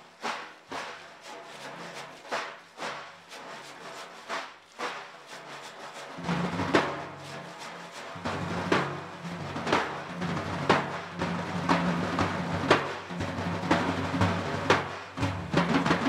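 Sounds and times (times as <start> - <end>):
frame drums played by hand: 0.0 - 16.0.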